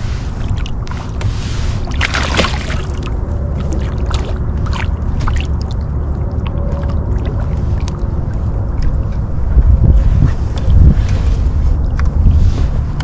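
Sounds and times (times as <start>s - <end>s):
water splashing and lapping: 0.0s - 13.0s
wind rumble on microphone: 0.0s - 13.0s.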